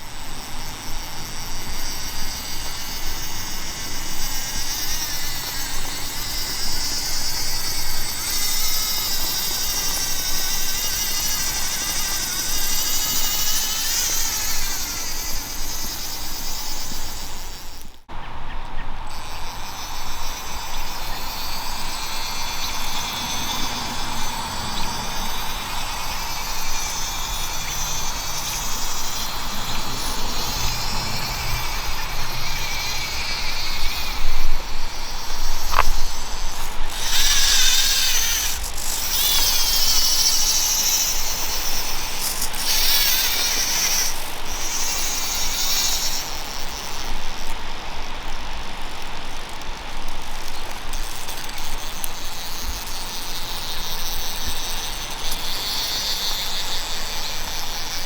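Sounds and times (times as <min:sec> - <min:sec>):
electric motor and gearing whining: 0:00.0 - 0:58.0.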